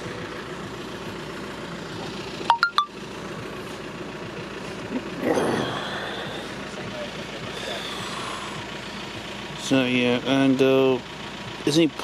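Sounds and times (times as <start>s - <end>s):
car idling: 0.0s - 12.0s
road traffic hum: 0.0s - 12.0s.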